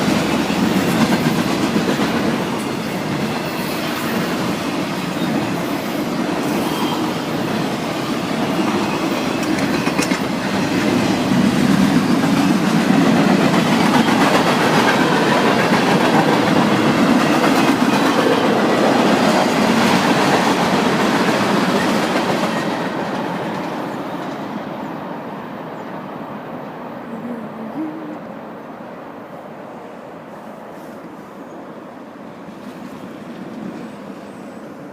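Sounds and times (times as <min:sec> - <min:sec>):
freight train rumble and rattle: 0:00.0 - 0:34.9.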